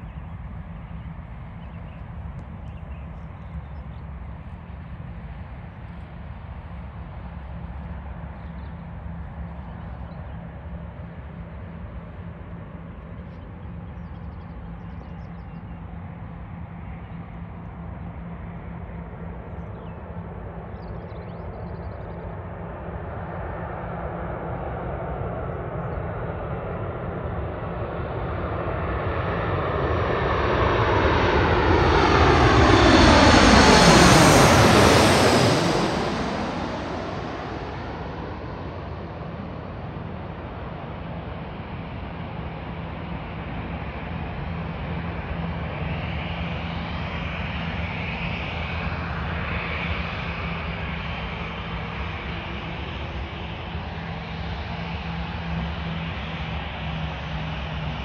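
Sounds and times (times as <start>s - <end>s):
jet engines passing: 0.0s - 58.0s.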